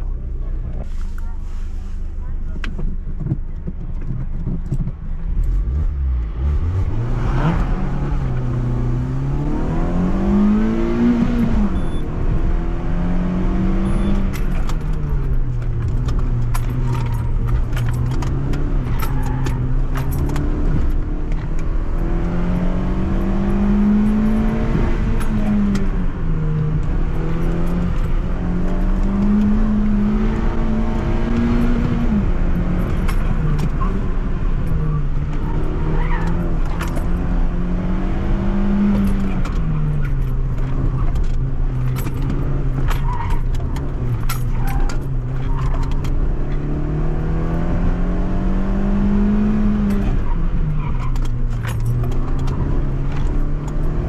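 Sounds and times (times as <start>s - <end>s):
car engine revving: 4.0s - 54.0s.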